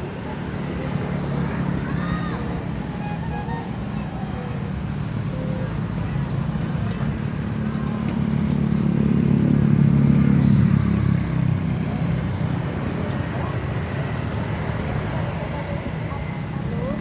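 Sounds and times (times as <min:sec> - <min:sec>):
bus diesel engine pulling away: 0:00.0 - 0:17.0.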